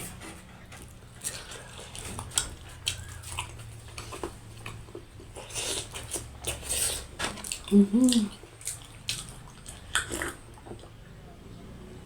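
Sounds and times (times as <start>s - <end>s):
person chewing: 0.0s - 11.0s
low steady hum: 0.0s - 12.0s.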